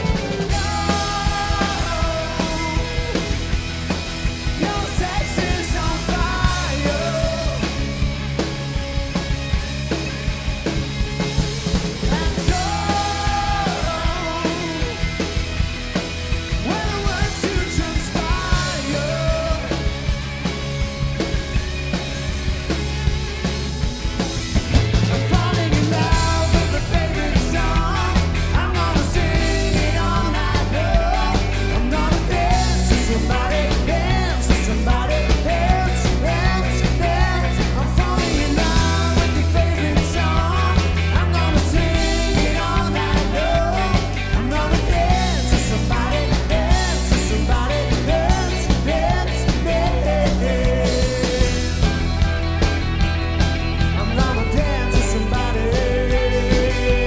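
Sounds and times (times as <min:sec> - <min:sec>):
rock music with singing: 0:00.0 - 0:57.0.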